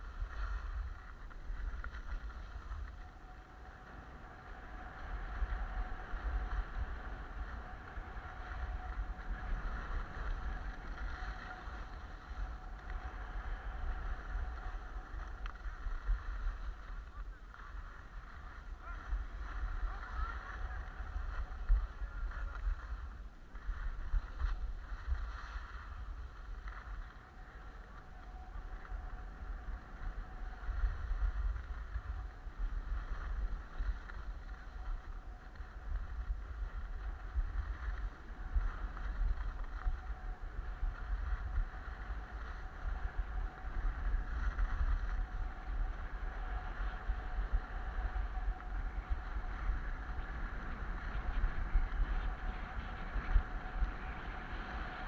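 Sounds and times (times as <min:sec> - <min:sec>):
skis sliding over snow: 0:00.0 - 0:55.0
wind buffeting microphone: 0:00.0 - 0:55.0.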